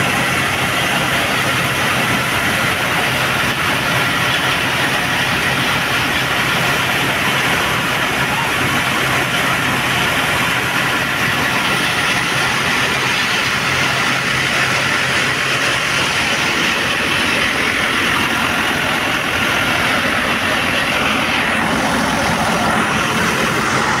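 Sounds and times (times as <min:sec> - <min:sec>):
low diesel engine hum: 0:00.0 - 0:24.0
thresher mechanical noise: 0:00.0 - 0:24.0.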